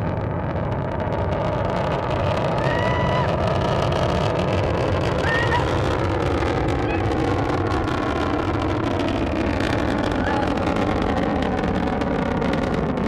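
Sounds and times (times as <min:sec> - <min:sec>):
rocket engines rumbling: 0:00.0 - 0:13.0.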